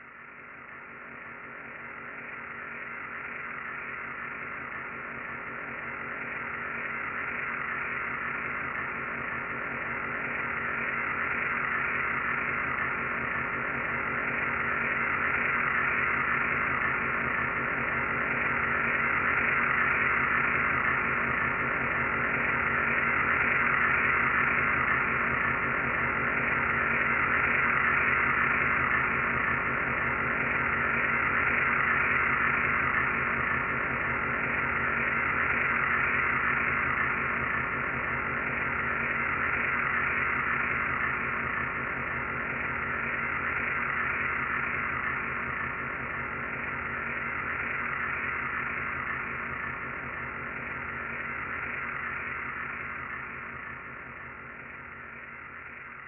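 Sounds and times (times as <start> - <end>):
spaceship hovering drone: 0.8 - 56.0.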